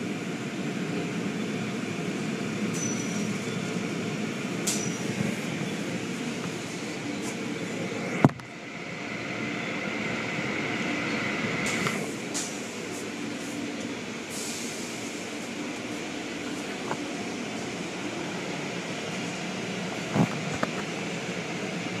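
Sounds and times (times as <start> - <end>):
car wash machinery running: 0.0 - 22.0.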